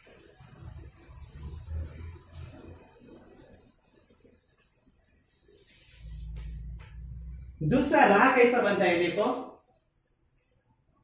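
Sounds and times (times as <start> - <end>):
cloth wiping a chalkboard: 0.0 - 10.6.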